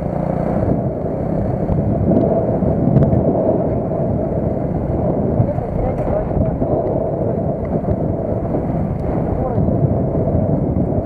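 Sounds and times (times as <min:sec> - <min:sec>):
moped engine running: 0:00.0 - 0:11.0
wind rumble on microphone: 0:00.0 - 0:11.0.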